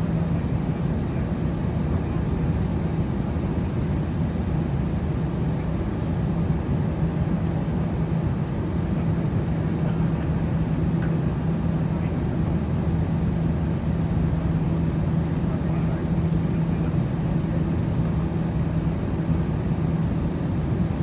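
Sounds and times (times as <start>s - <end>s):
airplane cabin engine rush: 0.0s - 21.0s.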